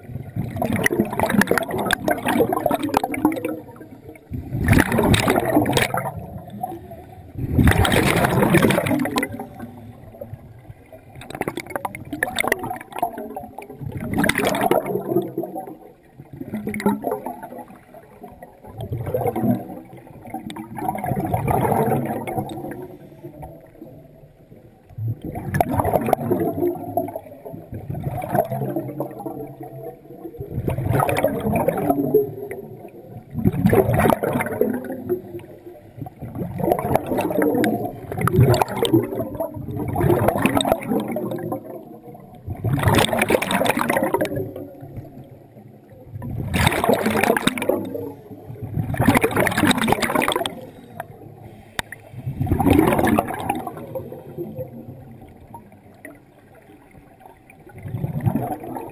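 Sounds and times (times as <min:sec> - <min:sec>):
exhaled bubbles rushing: 0:00.0 - 0:58.9.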